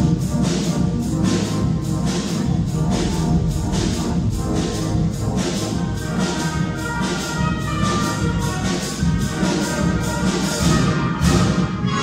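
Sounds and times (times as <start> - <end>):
wind band playing: 0.0 - 12.0.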